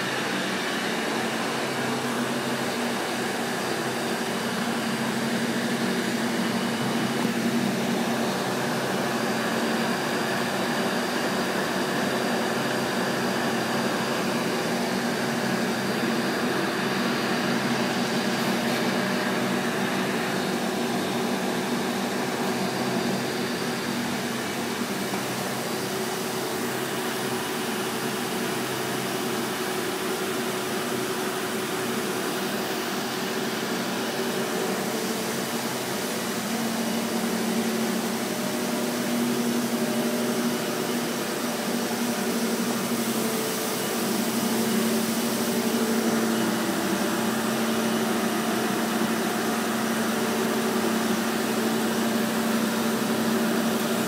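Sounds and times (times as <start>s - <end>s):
steady machine hum tones: 0.0s - 54.0s.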